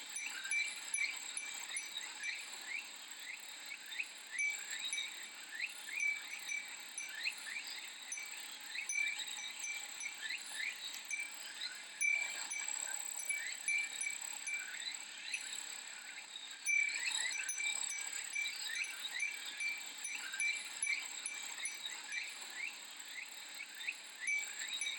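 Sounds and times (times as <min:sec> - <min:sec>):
wind chime tinkling: 0:00.0 - 0:02.8, 0:04.3 - 0:15.7, 0:16.7 - 0:22.7, 0:24.2 - 0:24.9
cicadas droning: 0:00.0 - 0:24.9.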